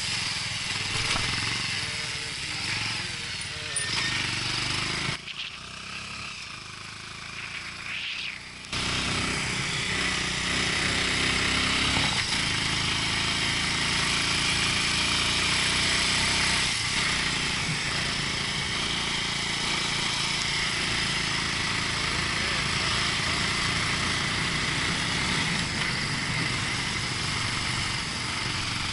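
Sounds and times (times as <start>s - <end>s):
motorcycle engine running: 0.0s - 28.9s
road noise: 0.0s - 28.9s.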